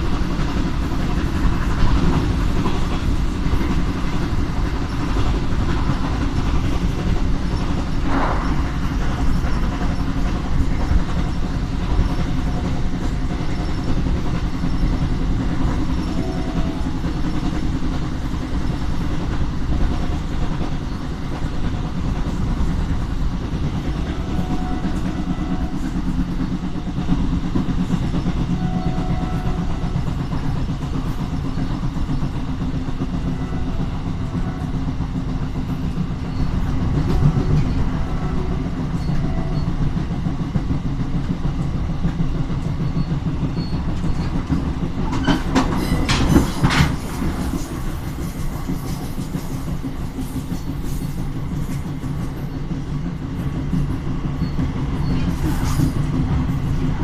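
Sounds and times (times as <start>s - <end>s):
train rumbling along track: 0.0s - 57.0s
wheels clacking over rail joints: 0.0s - 57.0s.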